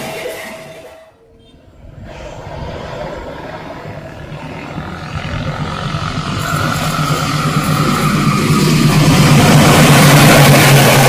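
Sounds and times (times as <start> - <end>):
train wheels on rails: 0.0 - 1.2, 1.8 - 11.0
diesel locomotive engine drone: 0.0 - 11.0.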